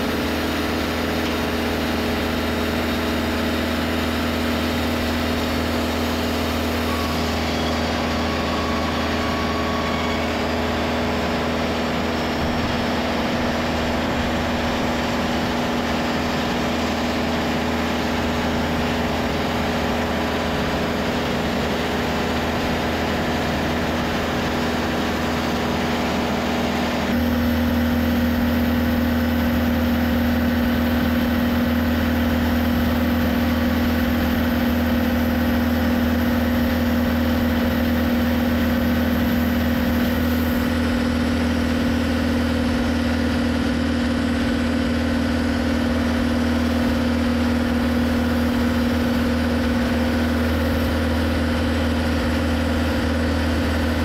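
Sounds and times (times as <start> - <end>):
band sawmill cutting log: 0.0 - 54.0.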